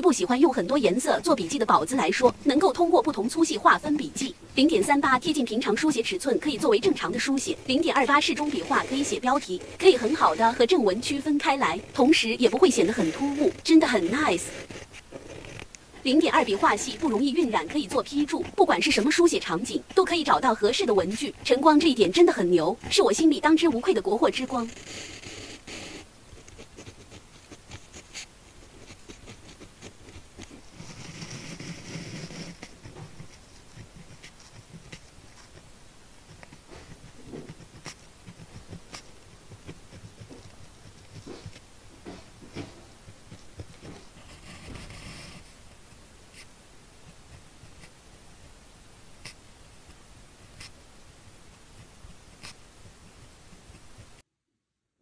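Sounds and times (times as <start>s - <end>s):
pen scratching on paper: 0.0s - 48.6s, 49.2s - 49.4s, 50.4s - 50.8s, 51.4s - 54.2s.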